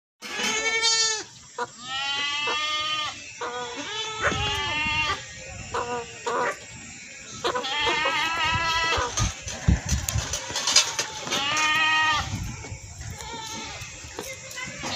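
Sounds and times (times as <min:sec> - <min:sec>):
goats bleating: 0:00.2 - 0:06.5, 0:07.3 - 0:12.4, 0:13.0 - 0:14.9.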